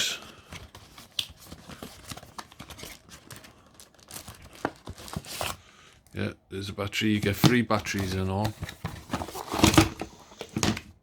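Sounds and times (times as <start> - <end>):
packaging rustling and scraping: 0.0 - 5.7, 7.2 - 11.0.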